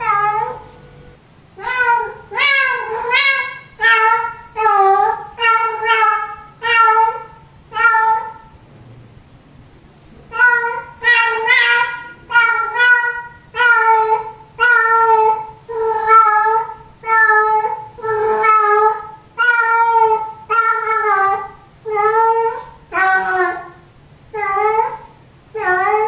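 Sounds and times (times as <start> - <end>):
cat yowling: 0.0 - 8.5, 10.3 - 26.0.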